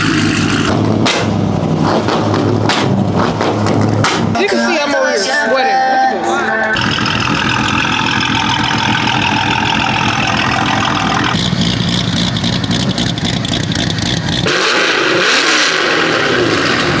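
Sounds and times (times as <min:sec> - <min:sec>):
car engines revving: 0:00.0 - 0:04.8, 0:06.2 - 0:17.0.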